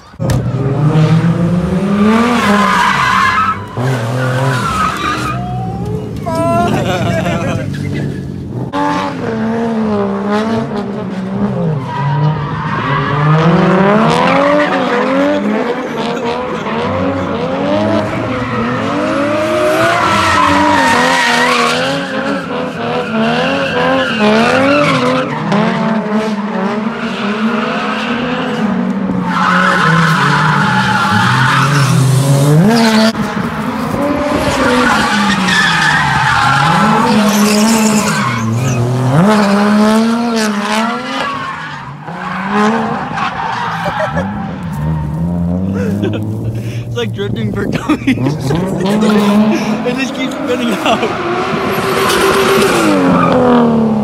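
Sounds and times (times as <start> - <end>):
tires squealing and skidding: 0.0 - 9.6, 10.6 - 46.7, 47.6 - 54.0
car engines revving: 0.0 - 54.0.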